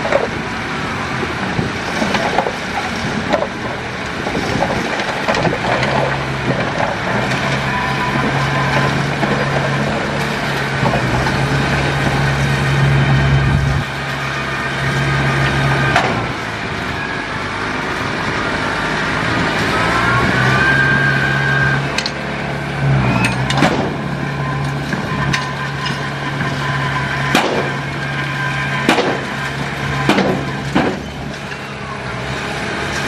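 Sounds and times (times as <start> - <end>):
diesel earthmoving machine running: 0.0 - 33.0.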